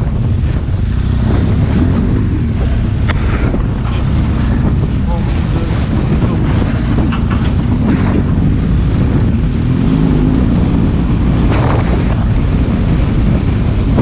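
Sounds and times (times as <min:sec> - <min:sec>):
motorcycle engine drone: 0:00.0 - 0:14.0
tyres on dirt road: 0:00.0 - 0:14.0
wind buffeting microphone: 0:00.0 - 0:14.0.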